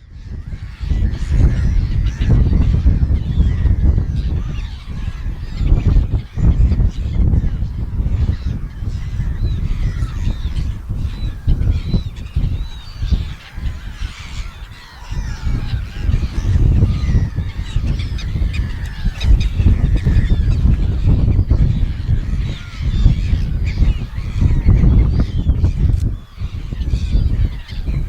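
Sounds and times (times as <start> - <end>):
gulls squawking: 0.1 - 28.0.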